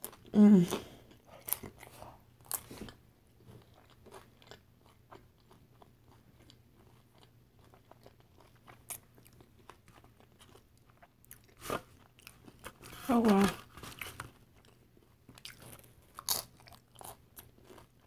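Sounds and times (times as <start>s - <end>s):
crunching and chewing chips: 0.0s - 18.0s.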